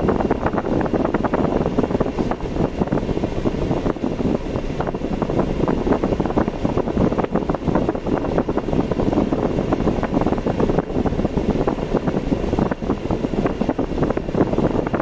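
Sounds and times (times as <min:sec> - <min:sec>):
car driving on road: 0:00.0 - 0:15.0
wind buffeting microphone: 0:00.0 - 0:15.0.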